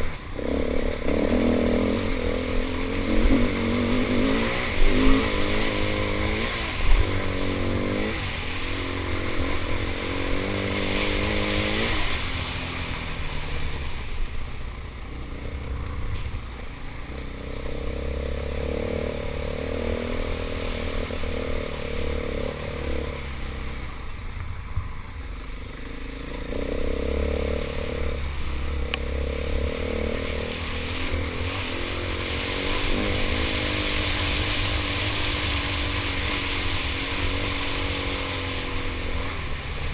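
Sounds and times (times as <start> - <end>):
dirt bike engine revving: 0.0 - 24.1, 25.2 - 39.9.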